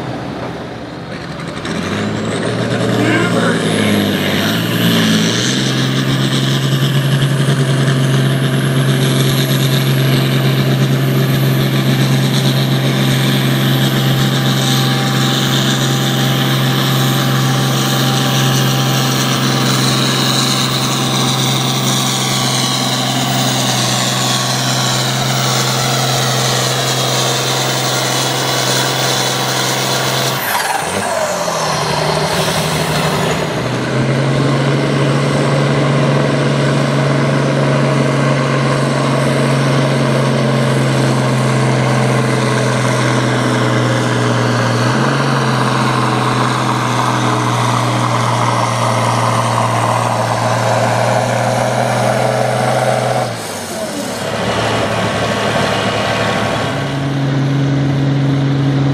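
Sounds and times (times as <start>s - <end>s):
tractor diesel engine running hard: 0.0s - 58.9s.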